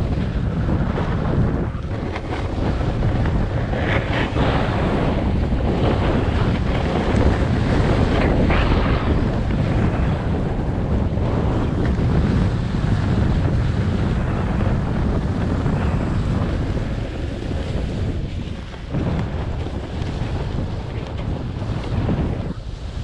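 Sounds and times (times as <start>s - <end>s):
snowboard scraping over snow: 0.0s - 23.0s
wind buffeting microphone: 0.0s - 23.0s.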